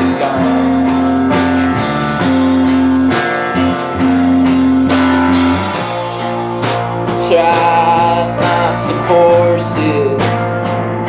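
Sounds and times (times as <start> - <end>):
cymbal hits: 0.0 - 11.0
live rock band playing: 0.0 - 11.0.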